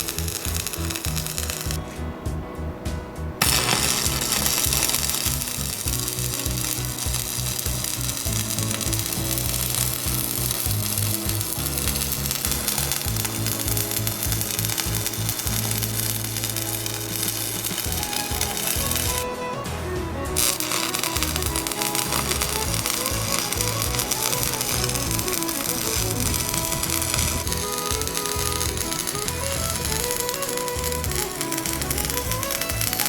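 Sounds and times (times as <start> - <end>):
arc welding crackling: 0.0 - 2.0, 3.4 - 33.0
background music with bass line: 0.0 - 33.0.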